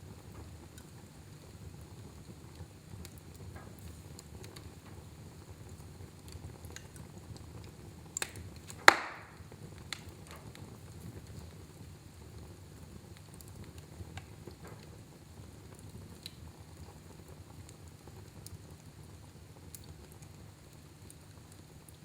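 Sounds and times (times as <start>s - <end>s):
fire popping: 0.0s - 22.0s
fire rumbling and crackling: 0.0s - 22.0s.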